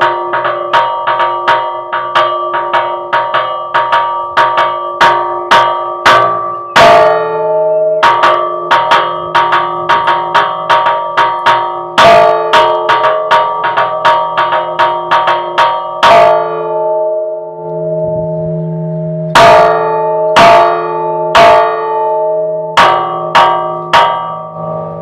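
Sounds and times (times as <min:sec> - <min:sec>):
deep bell hum: 0:00.0 - 0:25.0
fast ringing church bells: 0:00.0 - 0:25.0
heavy strokes of large bell: 0:00.0 - 0:25.0.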